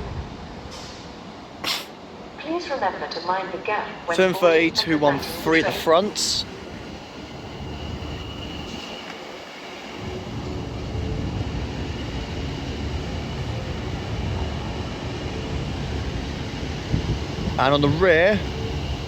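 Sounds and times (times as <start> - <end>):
train rumbling into platform: 0.0 - 19.0.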